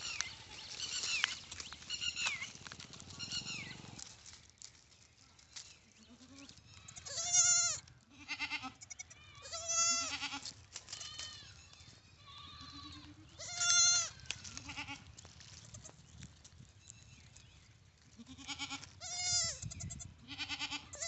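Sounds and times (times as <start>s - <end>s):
goat kids bleating: 0.0s - 4.0s, 5.9s - 16.0s, 18.1s - 21.0s.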